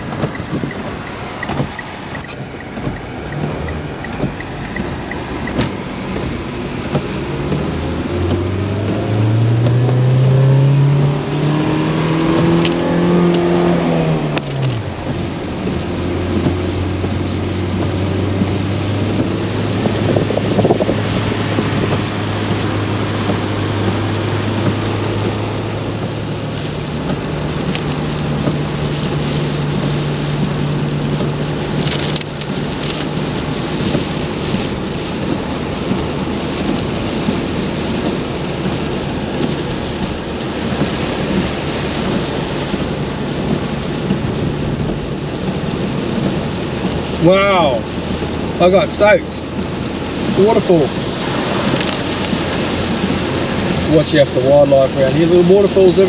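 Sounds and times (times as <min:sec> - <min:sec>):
low engine hum: 0:00.0 - 0:56.0
rushing flood water: 0:00.0 - 0:56.0.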